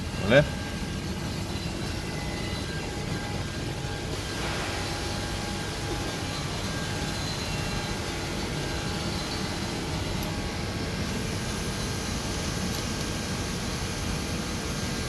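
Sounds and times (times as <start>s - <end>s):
printing machinery hum: 0.0s - 15.0s.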